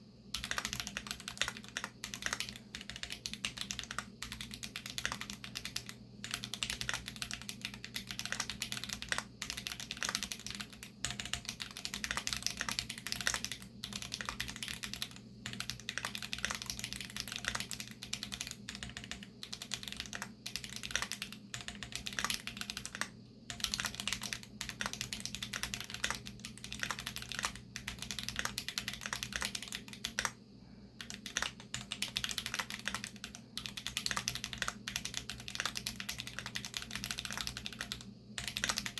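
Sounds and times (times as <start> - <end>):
fast mechanical keyboard typing: 0.3 - 30.4, 31.0 - 38.9.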